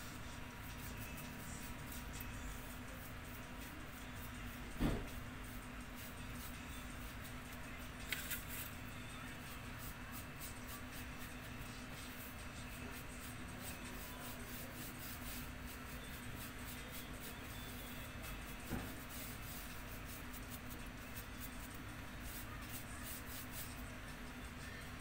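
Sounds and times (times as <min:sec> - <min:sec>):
paintbrush scratching paper: 0:00.0 - 0:24.3.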